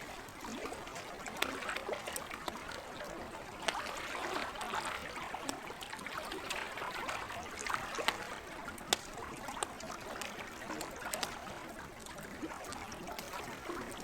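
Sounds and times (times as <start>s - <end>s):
campfire crackling and popping: 0.0s - 14.0s
lake water lapping: 0.0s - 14.0s.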